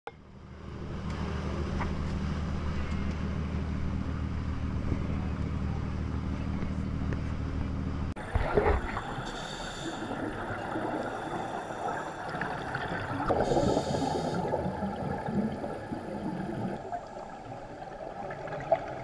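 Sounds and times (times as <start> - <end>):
boat engine droning: 0.2 - 19.0.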